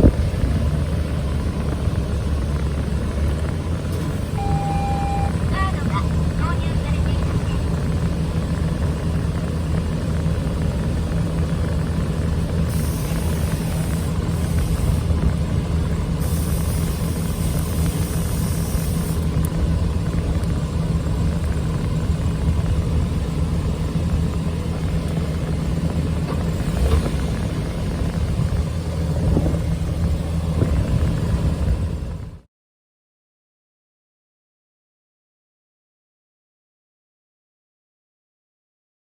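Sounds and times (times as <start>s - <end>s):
van engine humming: 0.0s - 32.5s.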